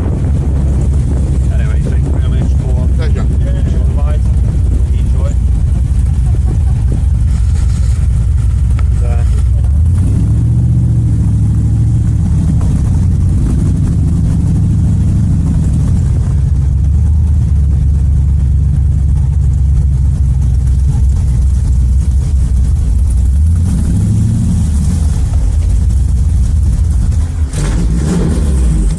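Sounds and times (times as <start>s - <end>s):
car engine rumbling: 0.0s - 28.9s.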